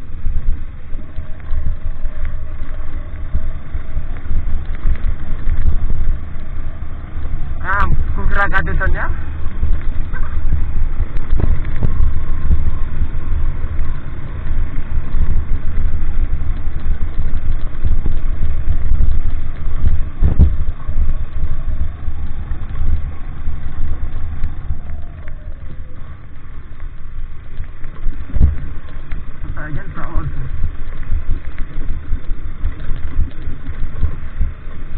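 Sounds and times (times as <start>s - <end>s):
road and wind noise: 0.0s - 34.9s
vehicle engine rumble: 0.0s - 34.9s.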